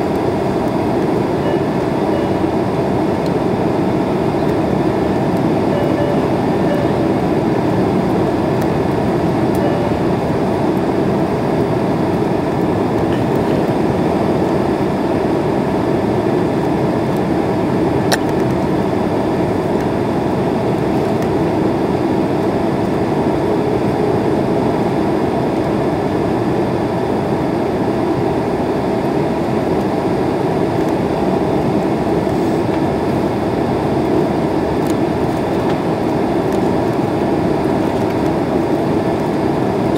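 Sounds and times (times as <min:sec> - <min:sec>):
jet engine and airflow noise: 0:00.0 - 0:39.9.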